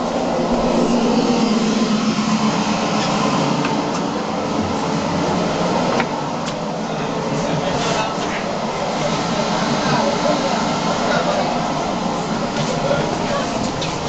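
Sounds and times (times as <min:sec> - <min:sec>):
machinery hum and rumble: 0:00.0 - 0:14.0.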